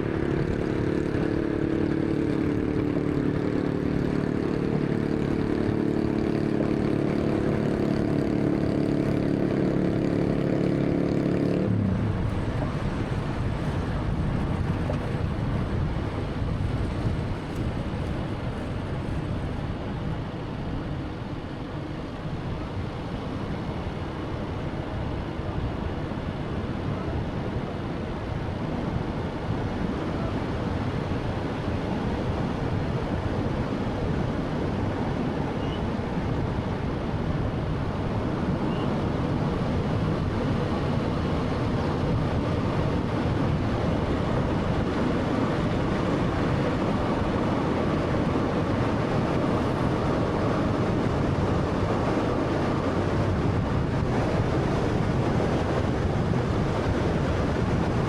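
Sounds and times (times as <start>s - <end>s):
car road noise: 0.0s - 22.0s, 25.0s - 58.0s.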